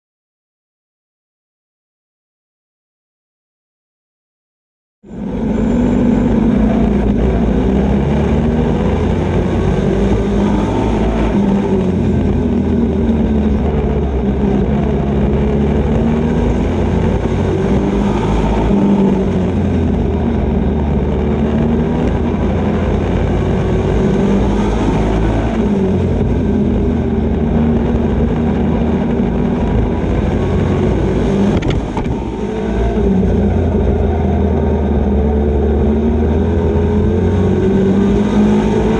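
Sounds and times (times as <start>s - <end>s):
truck engine running hard: 5.1s - 38.9s.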